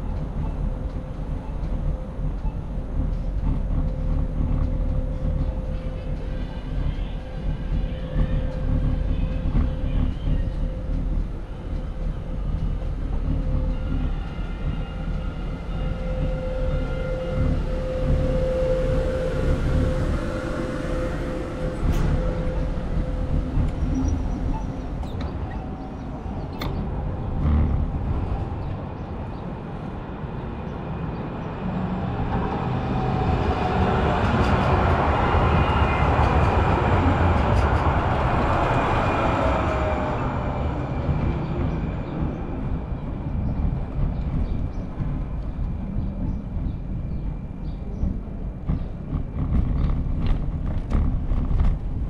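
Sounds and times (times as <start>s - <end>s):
wind and road rumble: 0.0s - 52.0s.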